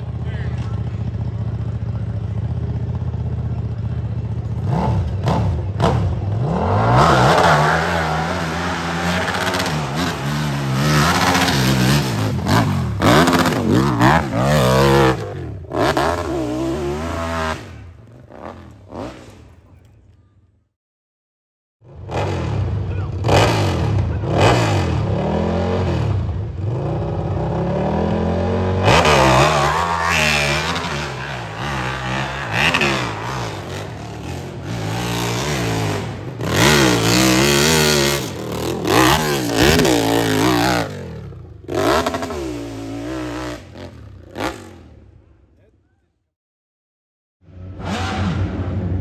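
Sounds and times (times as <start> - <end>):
dirt bike engine revving hard: 4.6 - 19.4, 21.9 - 44.9, 47.5 - 49.0.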